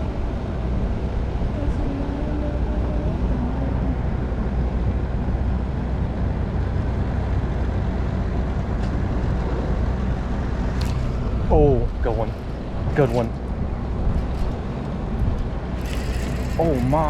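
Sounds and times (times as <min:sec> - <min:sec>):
motor running with low hum: 0:00.0 - 0:17.0.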